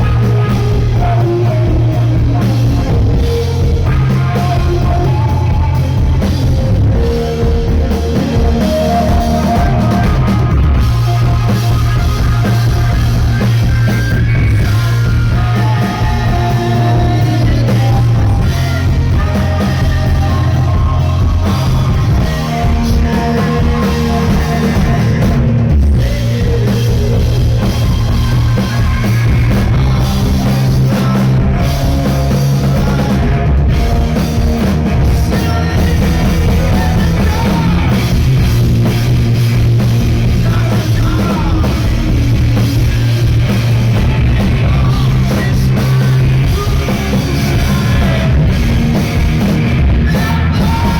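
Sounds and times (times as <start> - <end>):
rock band playing live: 0.0 - 50.9.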